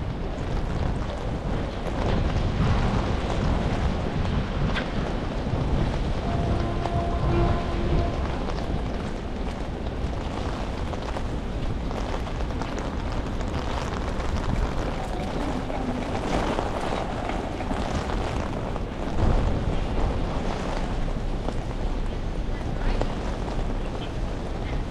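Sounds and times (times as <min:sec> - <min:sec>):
rain falling on wet paving: 0:00.0 - 0:24.9
wind buffeting microphone: 0:00.0 - 0:24.9.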